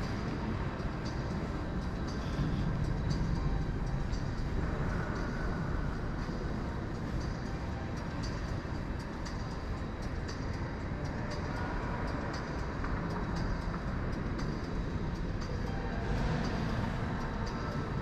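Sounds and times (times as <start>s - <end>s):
low rumbling industrial hall ambience: 0.0s - 18.0s.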